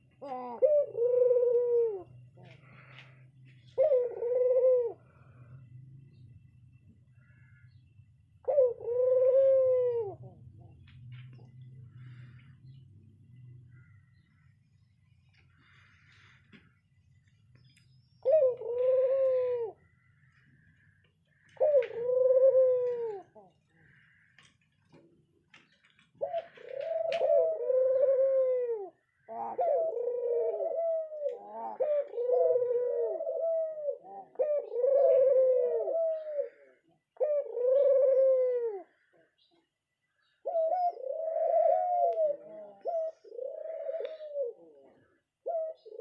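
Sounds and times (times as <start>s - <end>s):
dove cooing: 0.0s - 16.9s, 18.0s - 46.0s.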